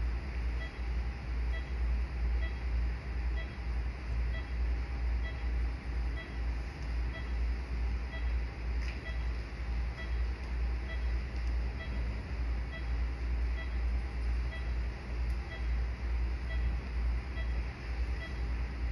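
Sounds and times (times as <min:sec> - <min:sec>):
low equipment rumble: 0:00.0 - 0:18.9
patient monitor beeping: 0:00.6 - 0:00.9, 0:01.5 - 0:01.8, 0:02.4 - 0:02.7, 0:03.3 - 0:04.6, 0:05.2 - 0:08.4, 0:09.0 - 0:18.9.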